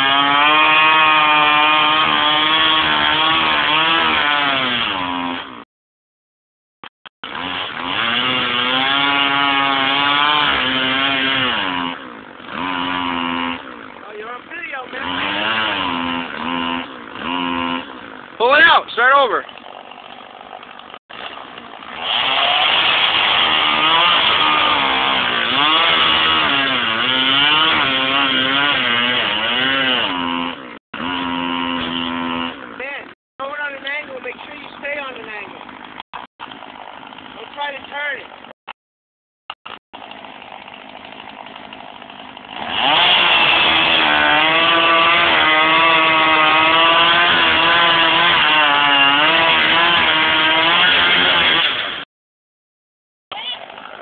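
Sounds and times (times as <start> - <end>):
chainsaw engine running: 0.0 - 5.7, 7.2 - 38.6, 39.6 - 52.1, 53.3 - 54.0.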